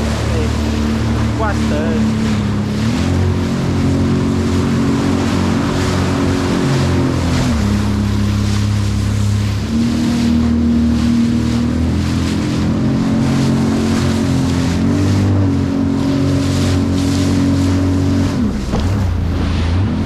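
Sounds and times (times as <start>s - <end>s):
jet ski engine running: 0.0s - 20.0s
water rushing: 0.0s - 20.0s.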